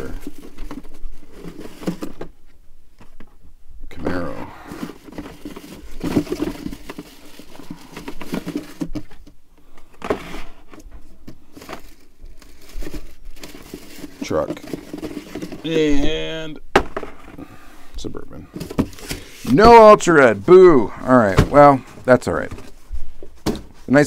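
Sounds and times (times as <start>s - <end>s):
card and plastic rustling: 0.0s - 3.3s, 4.0s - 15.9s, 18.5s - 24.0s.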